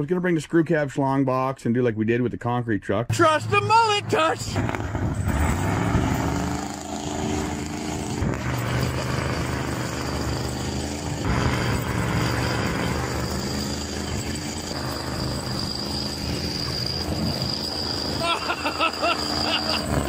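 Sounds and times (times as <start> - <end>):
truck engine revving hard: 3.1 - 20.0
tyres spinning in snow: 3.2 - 20.0.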